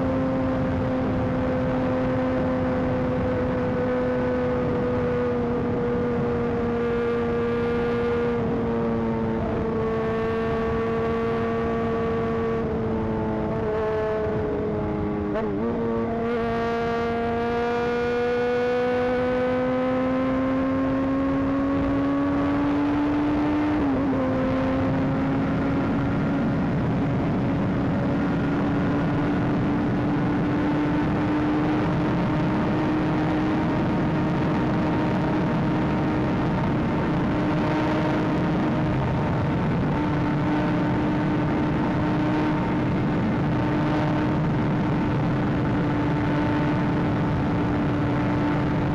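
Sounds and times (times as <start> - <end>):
motorcycle engine accelerating: 0.0 - 48.9
wind and road noise: 0.0 - 48.9.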